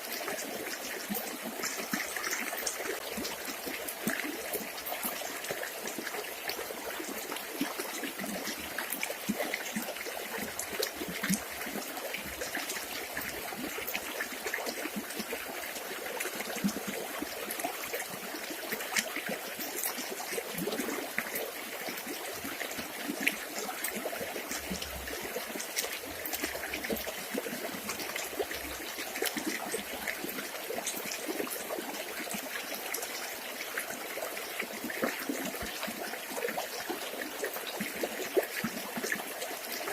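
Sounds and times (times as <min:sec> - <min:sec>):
river trickling over stones: 0:00.0 - 0:39.9.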